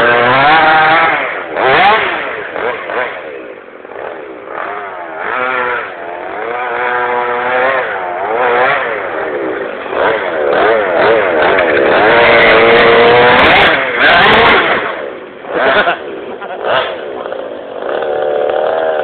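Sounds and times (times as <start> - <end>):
small two-stroke engine revving: 0.0 - 19.0.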